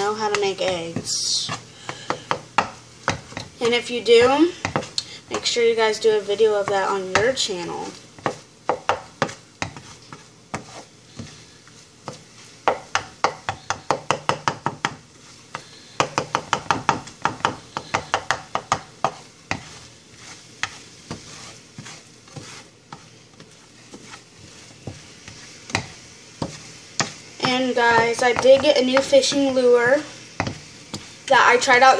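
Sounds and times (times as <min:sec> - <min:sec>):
eggs sizzling: 0:00.0 - 0:31.9
spatula tapping a frying pan: 0:00.1 - 0:05.6, 0:06.6 - 0:07.5, 0:08.2 - 0:11.4, 0:12.0 - 0:19.8, 0:20.6 - 0:29.7, 0:30.4 - 0:31.1.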